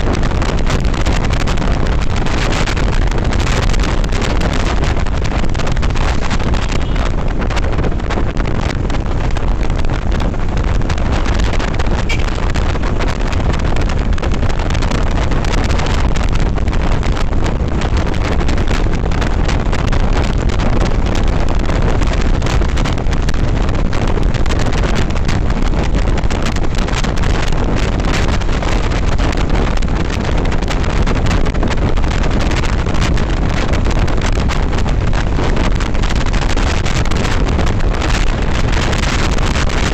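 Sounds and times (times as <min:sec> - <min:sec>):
motorcycle running: 0:00.0 - 0:39.9
road noise: 0:00.0 - 0:39.9
wind rushing over microphone: 0:00.0 - 0:39.9.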